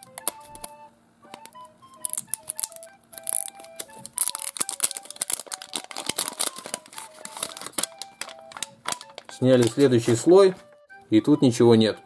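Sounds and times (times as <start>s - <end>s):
plastic wrapping crinkling: 0.0s - 0.7s, 1.3s - 10.8s
light background music: 0.0s - 12.0s.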